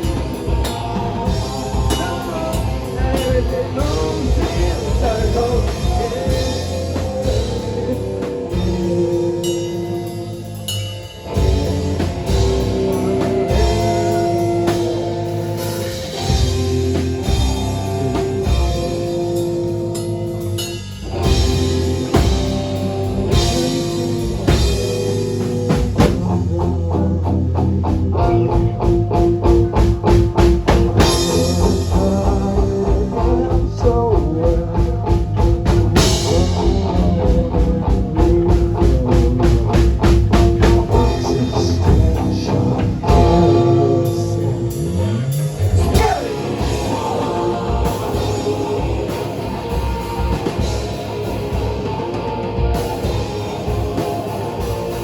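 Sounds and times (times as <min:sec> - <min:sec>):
fast drum beat: 0:00.0 - 0:27.2, 0:28.0 - 0:44.4, 0:45.6 - 0:55.0
rock band playing: 0:00.0 - 0:55.0.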